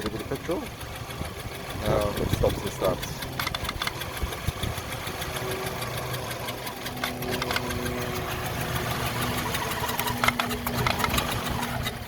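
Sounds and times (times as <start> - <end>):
car engine idling roughly: 0.0 - 12.0
engine ticks and knocks: 0.0 - 12.0.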